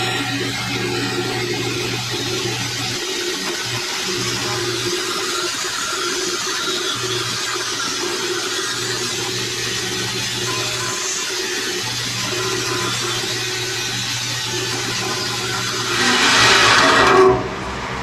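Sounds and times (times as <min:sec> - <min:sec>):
bandsaw cutting wood: 0:00.0 - 0:17.6.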